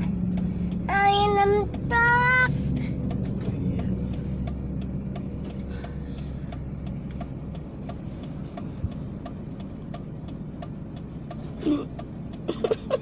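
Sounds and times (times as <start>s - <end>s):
diesel engine humming: 0.0s - 13.0s
light regular ticking: 0.0s - 13.0s.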